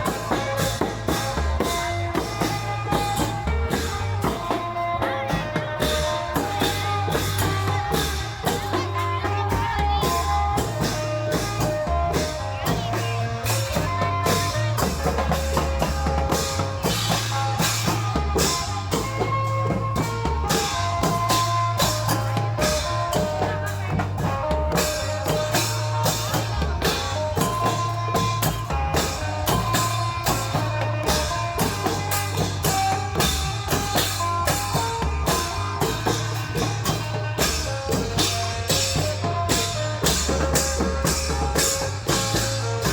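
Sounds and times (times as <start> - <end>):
drum band playing fast rhythm: 0.0 - 42.9.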